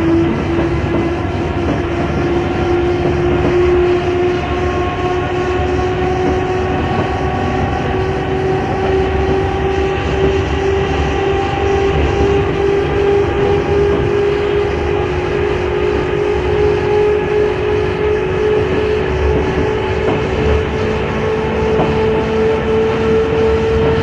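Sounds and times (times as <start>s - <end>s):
electric motor whine: 0.0s - 24.0s
train rumble: 0.0s - 24.0s.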